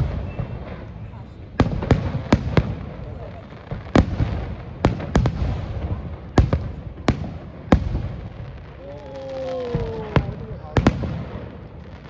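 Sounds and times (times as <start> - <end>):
continuous rumble: 0.0 - 11.9
fireworks bursting: 0.0 - 12.0.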